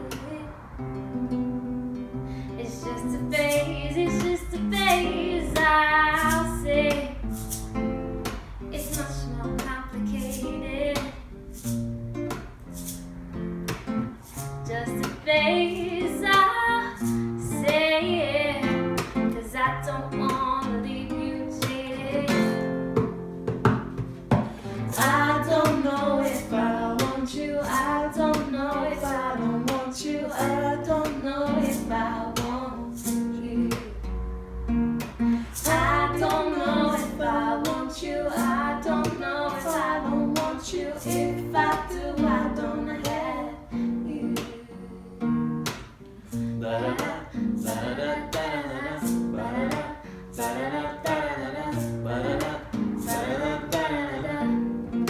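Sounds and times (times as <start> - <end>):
woman singing: 0.0 - 0.7, 2.5 - 7.3, 8.7 - 11.3, 14.6 - 23.0, 24.7 - 34.1, 35.4 - 45.5, 46.6 - 55.0
strummed acoustic guitar: 0.0 - 55.0.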